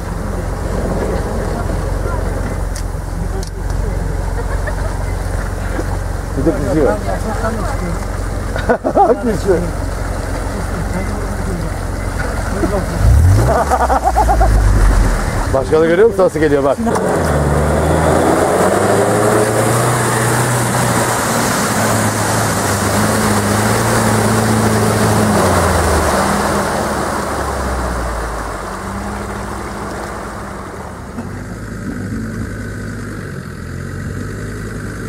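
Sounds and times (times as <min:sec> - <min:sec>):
off-road vehicle engine under load: 0:00.0 - 0:35.0
tyre and mud noise: 0:00.0 - 0:35.0.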